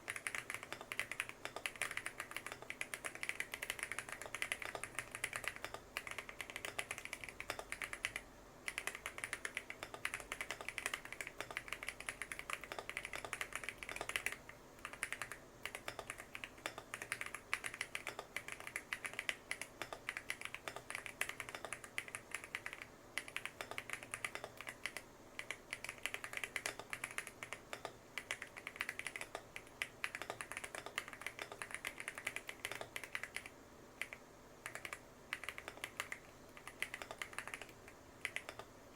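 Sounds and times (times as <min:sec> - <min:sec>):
fast typing on mechanical keyboard: 0:00.0 - 0:38.7.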